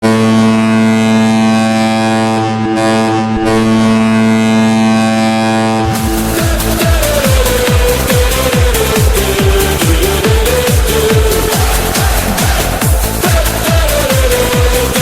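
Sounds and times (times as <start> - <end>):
electronic dance music: 0.0 - 15.0
goal horn: 0.0 - 15.0.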